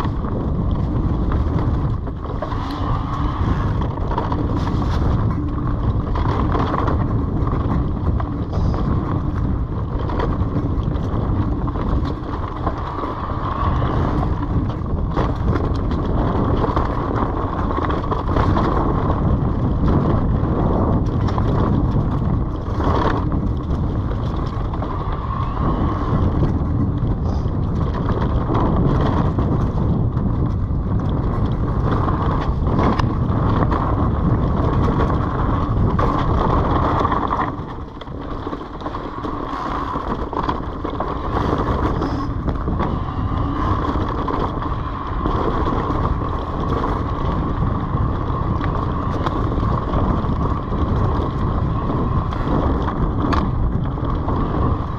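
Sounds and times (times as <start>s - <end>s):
bike tyres rolling on dirt trail: 0.0s - 54.9s
wind rushing over microphone: 0.0s - 54.9s.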